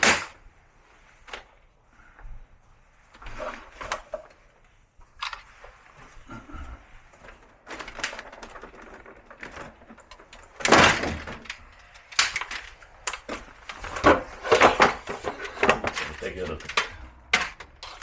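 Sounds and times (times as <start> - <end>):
air conditioner parts clattering: 0.0 - 18.0.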